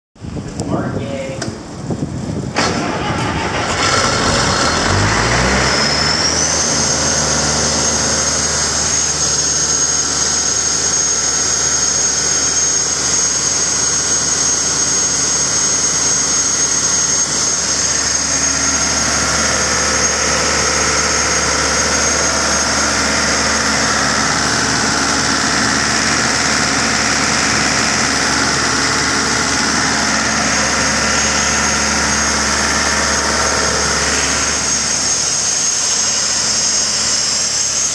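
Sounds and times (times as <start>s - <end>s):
diesel engine running: 0.2s - 37.9s.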